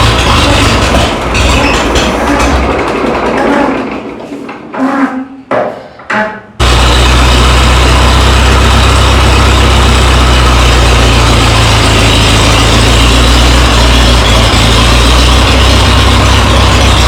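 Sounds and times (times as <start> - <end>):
tractor engine drone: 0.0 - 4.3, 6.6 - 17.0.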